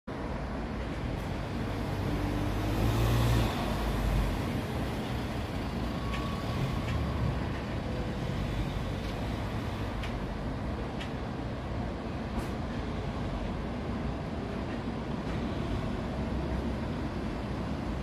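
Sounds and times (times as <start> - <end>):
road traffic noise: 0.1 - 18.0
heavy vehicle rumble: 0.2 - 18.0.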